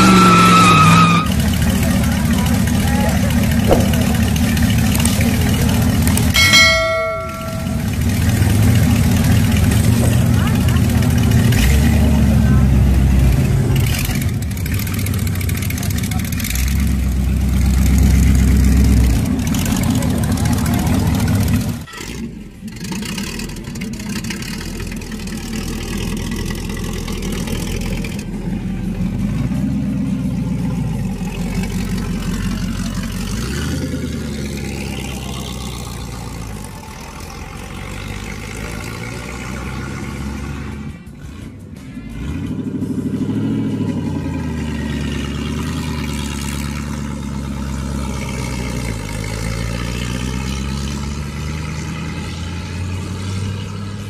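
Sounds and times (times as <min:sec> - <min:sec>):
motorcycle engines revving: 0:00.0 - 0:54.0
motorcycle riding off: 0:00.0 - 0:54.0.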